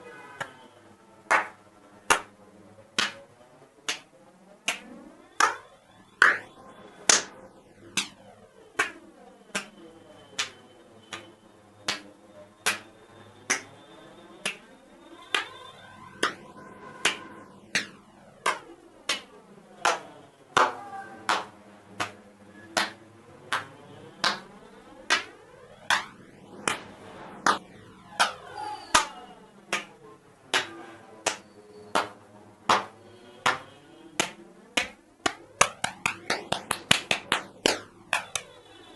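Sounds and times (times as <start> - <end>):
hand claps: 0.4 - 0.6, 1.3 - 13.8, 14.4 - 38.6.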